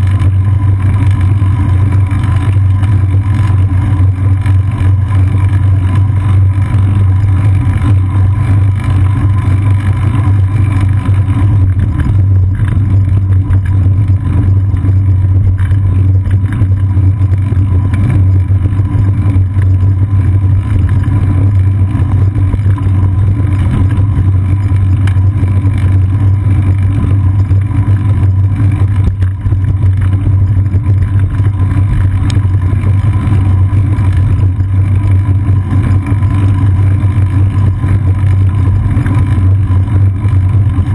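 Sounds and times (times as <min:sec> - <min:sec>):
road vibration rumble: 0:00.0 - 0:40.9.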